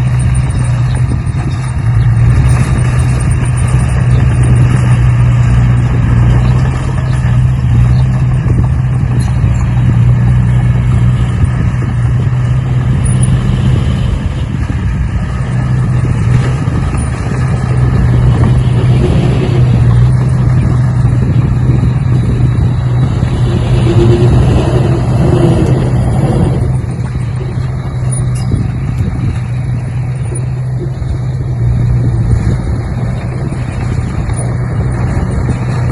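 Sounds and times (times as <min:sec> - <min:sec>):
motor droning: 0:00.0 - 0:35.9.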